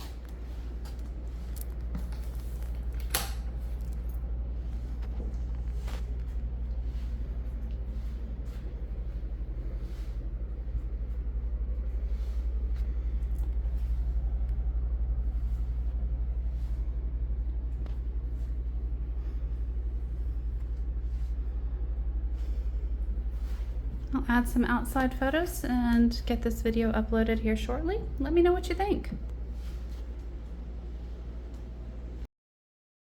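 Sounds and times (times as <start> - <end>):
low fluttering rumble: 0.0 - 32.3.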